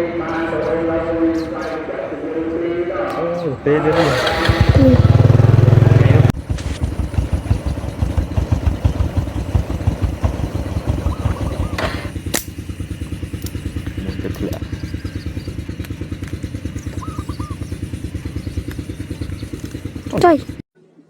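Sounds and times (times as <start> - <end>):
small motorcycle engine running: 3.7 - 20.6.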